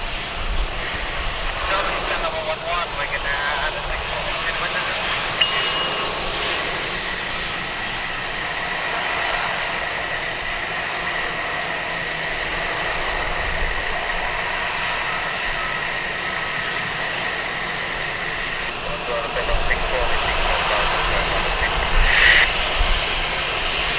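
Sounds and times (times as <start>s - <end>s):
jet engines running with whine: 0.0s - 23.9s.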